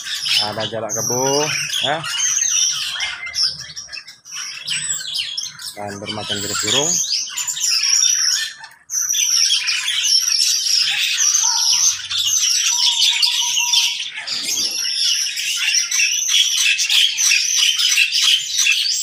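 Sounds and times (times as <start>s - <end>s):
cage birds chirping and chattering: 0.0s - 19.0s.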